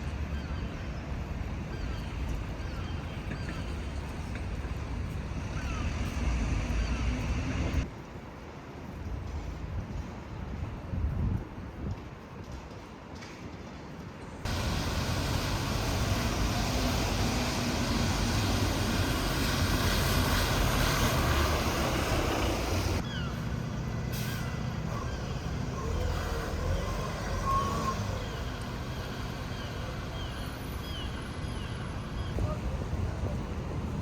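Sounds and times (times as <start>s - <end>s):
train rumbling: 0.0s - 10.9s, 11.5s - 34.0s.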